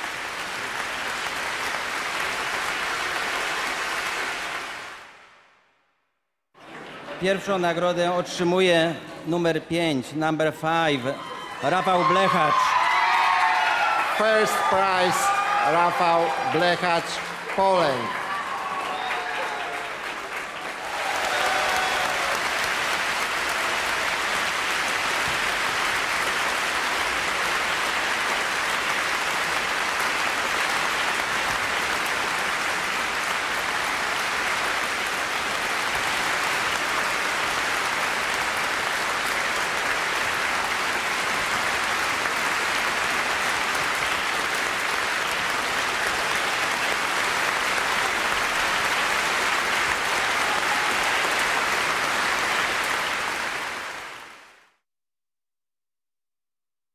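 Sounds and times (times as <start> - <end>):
large audience applauding: 0.0 - 5.4, 11.2 - 54.8.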